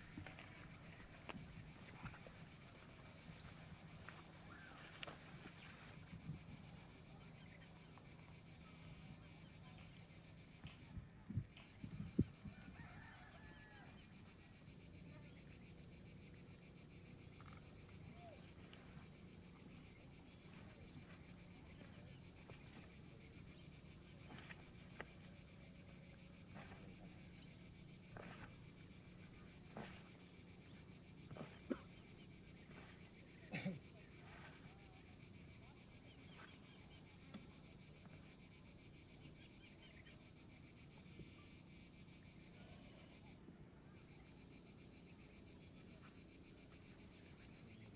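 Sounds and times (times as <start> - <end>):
insect chorus buzzing: 0.0 - 47.9.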